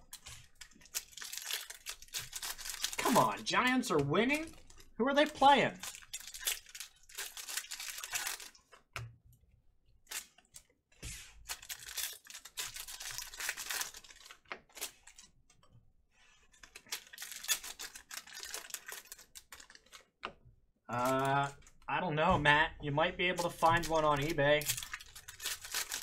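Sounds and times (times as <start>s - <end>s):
plastic wrappers crinkling and ripping: 0.0s - 8.9s, 10.0s - 15.4s, 16.2s - 20.2s, 20.9s - 21.9s, 23.4s - 26.0s.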